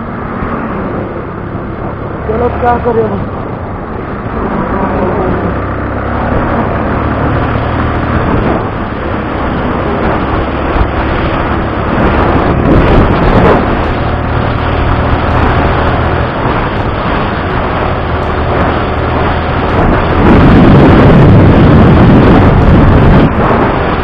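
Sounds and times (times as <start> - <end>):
motorcycle engine cruising: 0.0 - 24.0
wind and road noise: 0.0 - 24.0.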